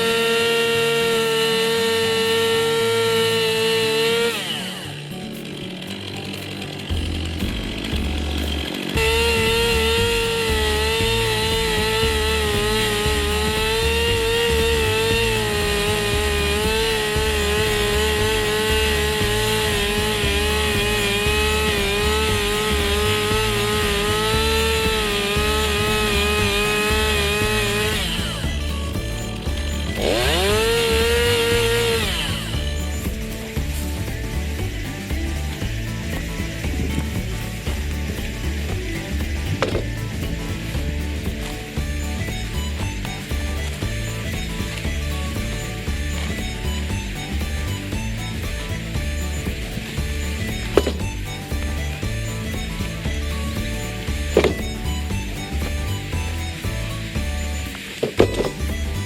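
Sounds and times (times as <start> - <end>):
background music with steady beat: 0.0 - 59.0
chainsaw cutting log: 0.0 - 59.0.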